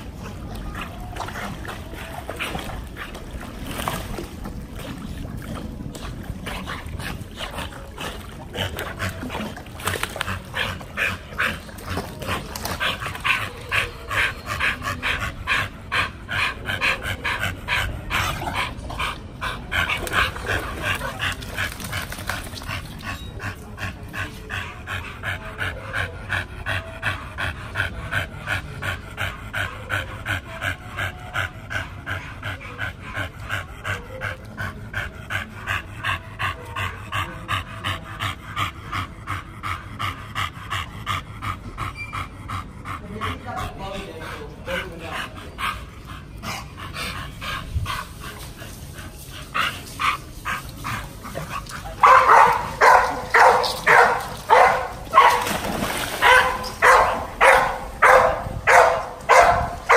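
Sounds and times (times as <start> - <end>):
dog panting hard: 0.0 - 59.9.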